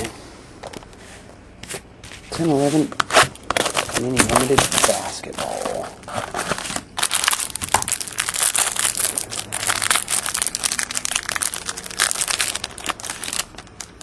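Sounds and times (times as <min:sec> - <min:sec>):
plastic wrapping crinkling: 0:02.2 - 0:14.0.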